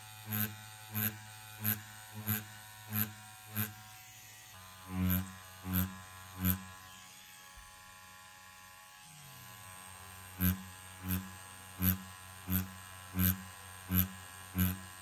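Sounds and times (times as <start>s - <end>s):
tattoo machine buzzing: 0.0s - 15.0s.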